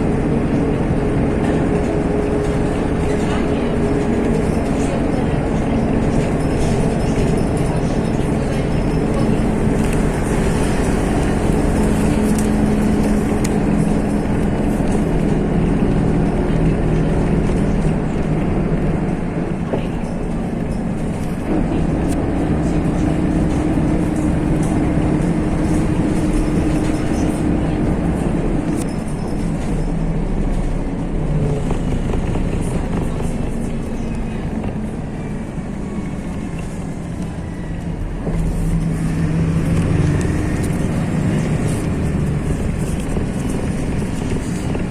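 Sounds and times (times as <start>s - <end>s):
bus engine and road drone: 0.0s - 44.9s.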